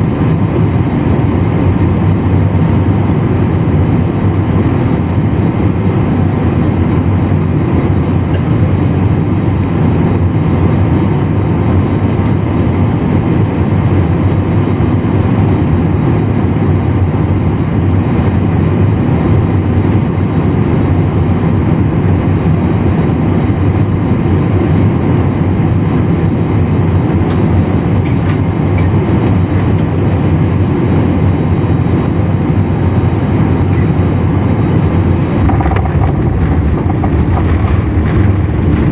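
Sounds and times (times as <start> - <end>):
airliner cabin rumble: 0.0 - 15.0, 19.7 - 38.9.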